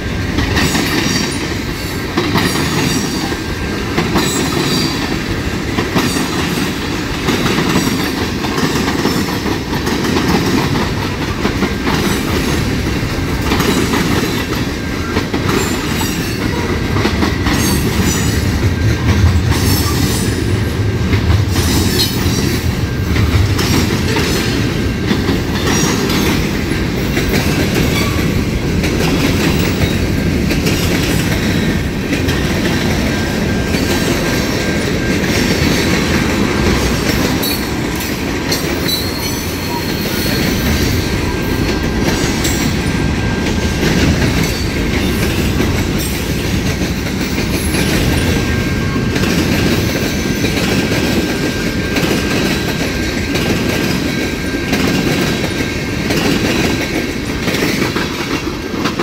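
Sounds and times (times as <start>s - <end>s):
train wheels clicking over rail joints: 0.0s - 59.0s.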